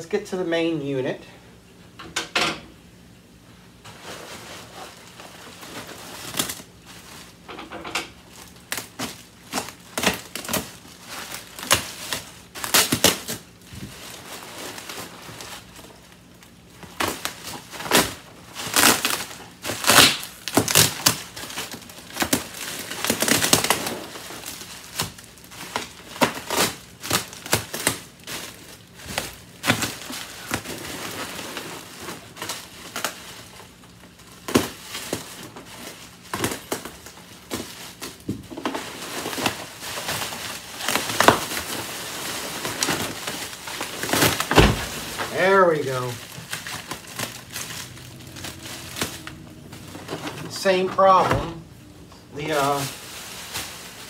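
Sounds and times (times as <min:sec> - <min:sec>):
bubble wrap crinkling: 0:03.6 - 0:54.0
plastic bag crinkling: 0:03.8 - 0:07.5, 0:08.1 - 0:54.0.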